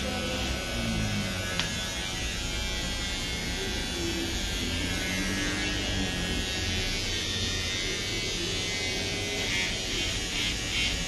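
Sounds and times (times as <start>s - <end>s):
electric hair clipper buzzing: 0.0s - 11.0s.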